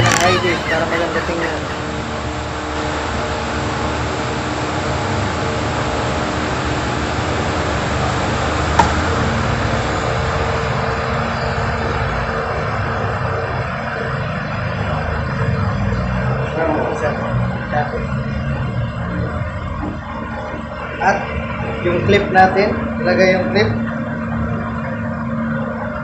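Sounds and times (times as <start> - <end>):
rushing background noise: 0.0 - 26.0.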